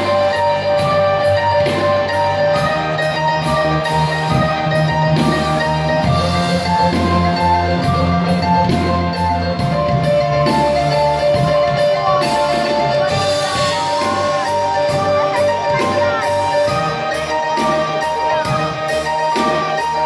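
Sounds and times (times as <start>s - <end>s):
held bass notes: 0.0s - 20.0s
mallet percussion melody: 0.0s - 20.0s
steady beat: 0.0s - 20.0s.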